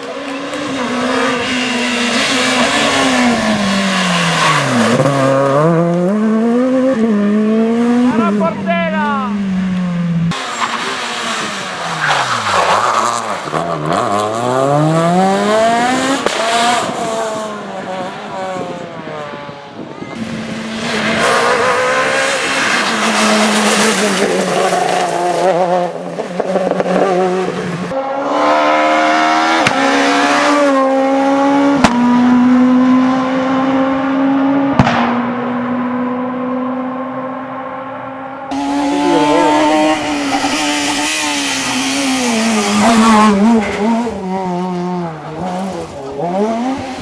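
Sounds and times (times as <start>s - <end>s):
rally cars high-revving engines: 0.0s - 8.6s, 9.2s - 47.0s.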